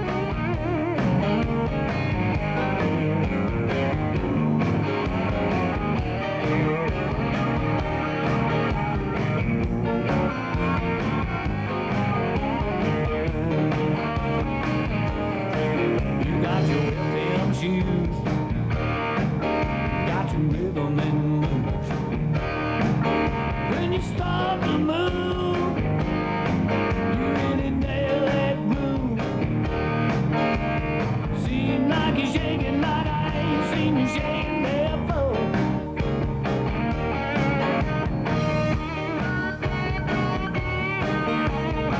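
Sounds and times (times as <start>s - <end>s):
instrumental blues band music: 0.0s - 41.9s.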